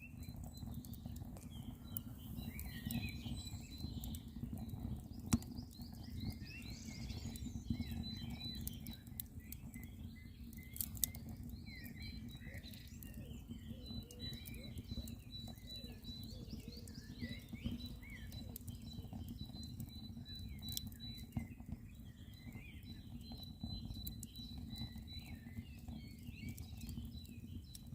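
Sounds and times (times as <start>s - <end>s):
birds singing and chirping: 0.0s - 27.9s
campfire crackling and popping: 0.0s - 27.9s.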